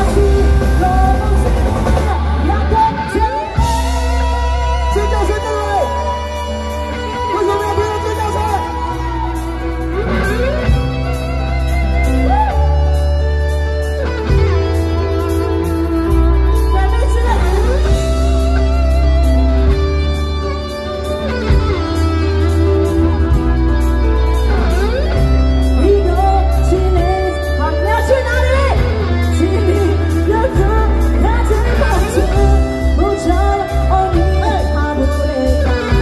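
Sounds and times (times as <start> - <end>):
electric guitar lead: 0.0 - 36.0
live rock band playing: 0.0 - 36.0.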